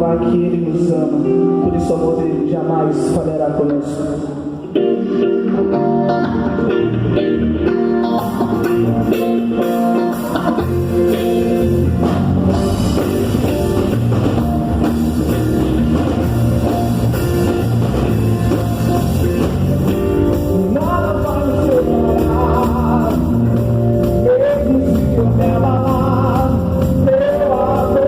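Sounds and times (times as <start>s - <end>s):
guitar: 0.0s - 28.0s
bass and drum kit: 5.3s - 28.0s.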